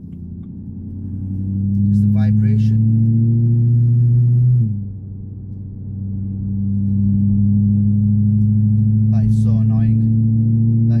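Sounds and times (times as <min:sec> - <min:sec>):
car engine deep drone: 0:00.0 - 0:11.0.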